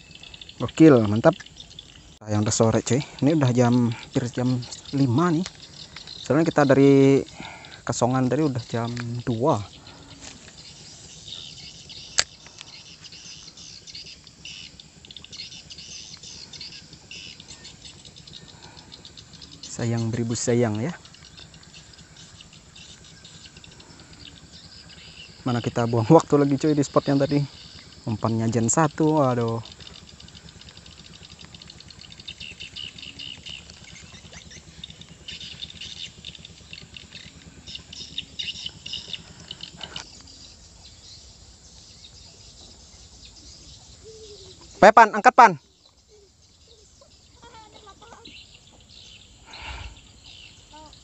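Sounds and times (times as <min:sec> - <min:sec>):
rhythmic high-pitched chirping: 0:00.0 - 0:51.0.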